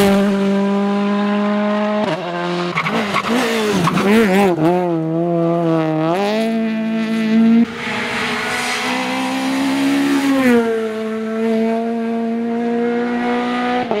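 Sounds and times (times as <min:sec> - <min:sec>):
rally car engines at high revs: 0:00.0 - 0:14.0.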